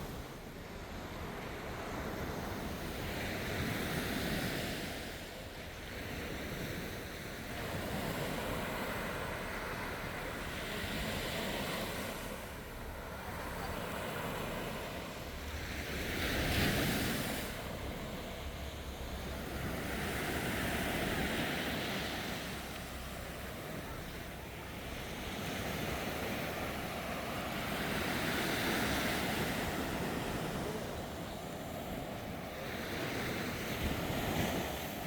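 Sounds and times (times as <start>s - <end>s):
sea waves breaking on shore: 0.0s - 35.0s
wind rumble on microphone: 0.0s - 35.0s.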